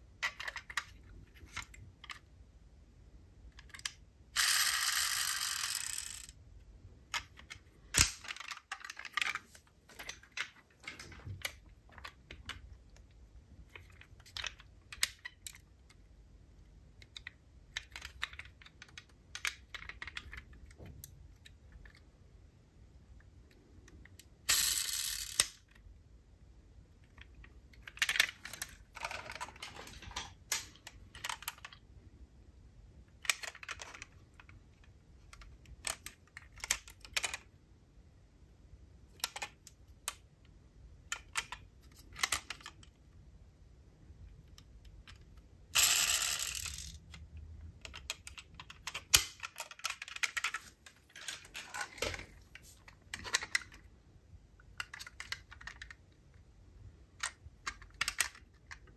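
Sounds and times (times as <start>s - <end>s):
toy cars clicking and knocking: 0.2s - 2.3s, 3.5s - 6.4s, 7.1s - 16.1s, 16.8s - 22.1s, 23.3s - 25.8s, 27.0s - 31.9s, 33.1s - 37.5s, 39.1s - 40.3s, 41.0s - 43.0s, 44.5s - 53.9s, 54.6s - 56.5s, 57.1s - 58.9s.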